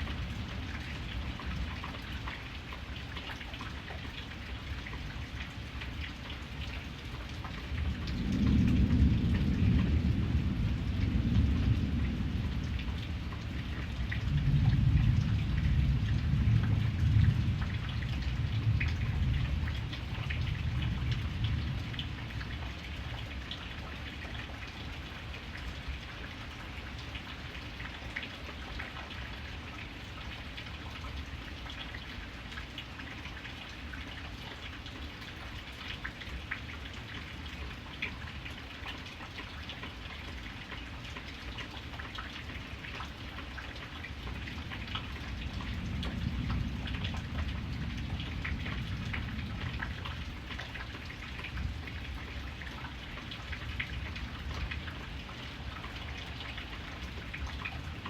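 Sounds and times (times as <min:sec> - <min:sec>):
rain drops ticking: 0:00.0 - 0:58.0.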